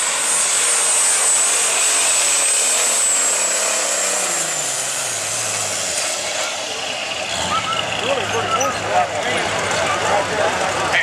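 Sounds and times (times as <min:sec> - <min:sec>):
pulling tractor engine at full power: 0:00.0 - 0:11.0.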